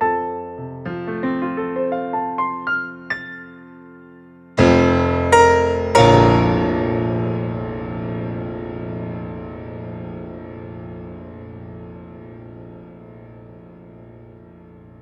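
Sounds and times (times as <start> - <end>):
synthesizer piano notes and chords: 0.0 - 15.0.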